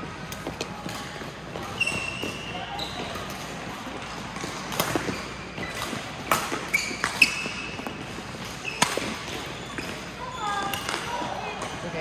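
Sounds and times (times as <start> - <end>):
shoes squeaking on court: 0.3 - 12.0.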